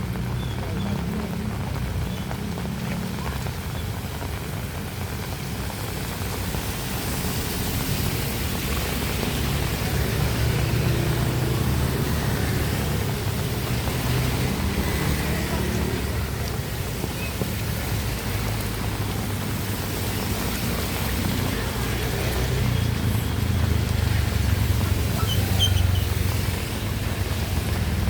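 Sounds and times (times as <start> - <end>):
passing traffic hum: 0.0 - 28.0
steady rain hiss: 0.0 - 28.0.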